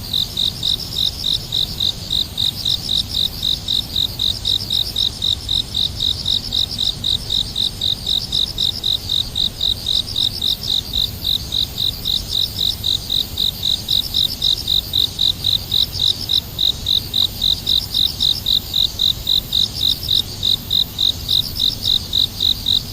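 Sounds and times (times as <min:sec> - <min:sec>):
cricket chirping: 0:00.0 - 0:22.9
high insect trill: 0:00.0 - 0:22.9.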